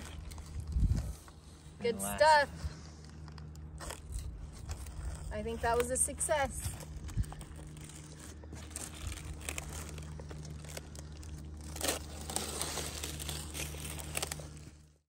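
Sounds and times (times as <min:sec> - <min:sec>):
wax paper peeling and crumpling: 0:00.0 - 0:01.7, 0:02.7 - 0:15.0
steady low hum: 0:00.0 - 0:15.0.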